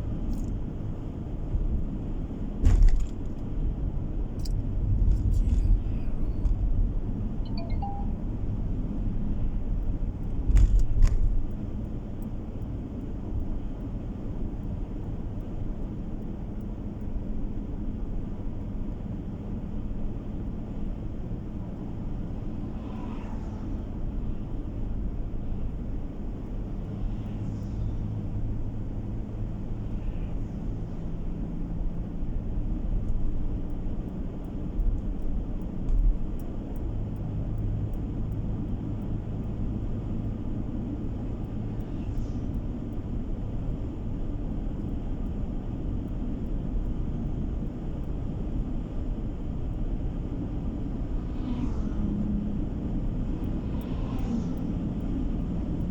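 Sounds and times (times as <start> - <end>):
car road and engine noise: 0.0 - 55.9.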